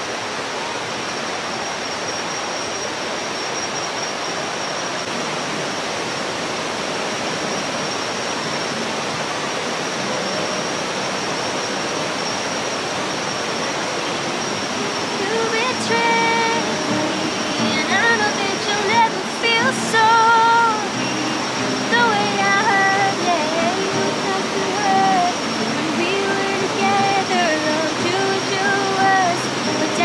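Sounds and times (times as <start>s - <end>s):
river rushing over boulders: 0.0s - 30.0s
thin high tone: 0.4s - 6.2s, 7.2s - 30.0s.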